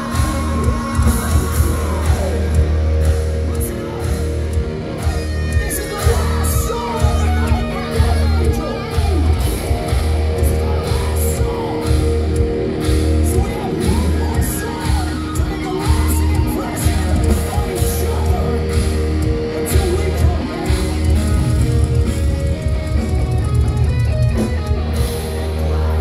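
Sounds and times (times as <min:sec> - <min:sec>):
singer yelling into microphone: 0:00.0 - 0:22.1
thrash metal band playing: 0:00.0 - 0:26.0.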